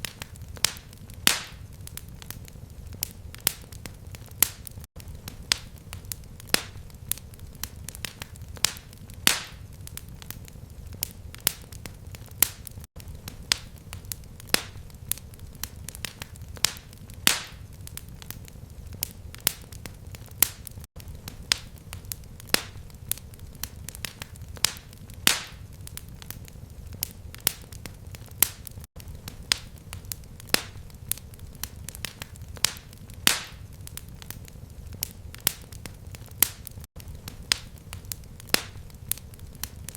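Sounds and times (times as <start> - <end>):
fire pops and snaps: 0.0 - 39.9
low rumble of flame: 0.0 - 39.9.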